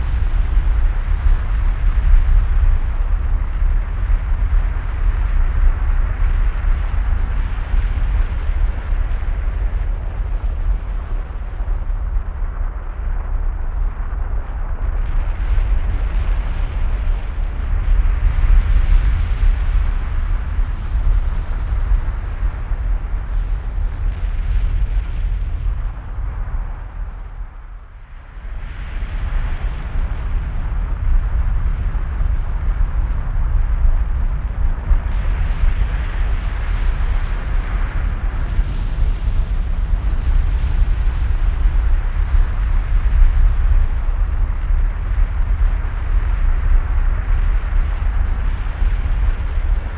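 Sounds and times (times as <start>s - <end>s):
lava fountain rumbling roar: 0.0s - 49.9s.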